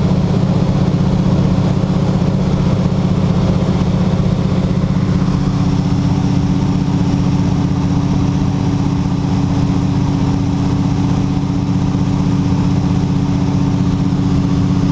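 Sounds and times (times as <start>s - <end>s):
airplane propeller engine droning: 0.0s - 14.9s.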